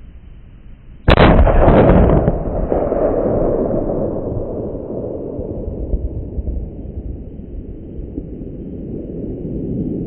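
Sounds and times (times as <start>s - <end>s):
rifle shot with rolling echo: 1.0s - 9.8s.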